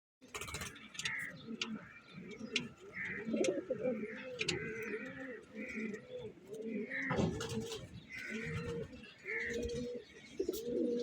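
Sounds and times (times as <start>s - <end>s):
pigeons cooing: 0.3s - 11.0s.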